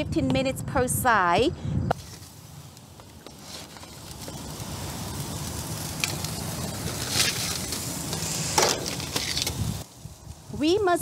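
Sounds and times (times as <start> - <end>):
gas grill burners hissing: 0.0 - 11.0.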